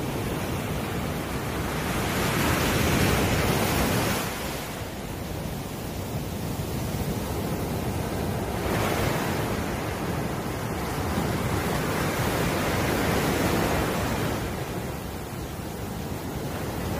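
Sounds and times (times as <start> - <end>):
ocean surf breaking: 0.0 - 16.9.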